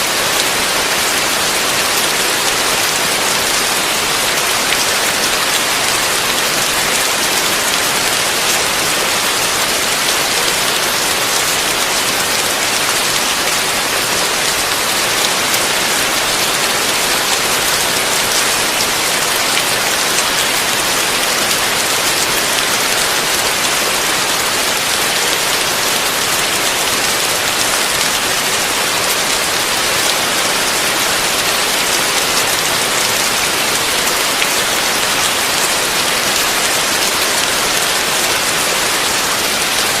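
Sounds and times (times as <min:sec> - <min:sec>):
heavy rain on a roof: 0:00.0 - 0:40.0.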